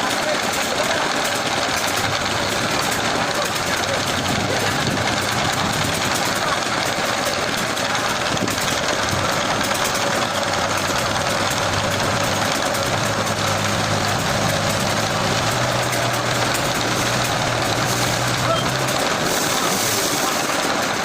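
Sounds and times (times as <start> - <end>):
engine hum: 0.0 - 21.0
loud mechanical noise: 0.0 - 21.0.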